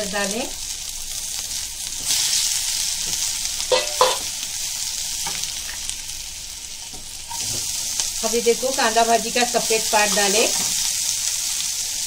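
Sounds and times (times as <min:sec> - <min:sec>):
ginger and garlic sizzling in oil: 0:00.0 - 0:12.0.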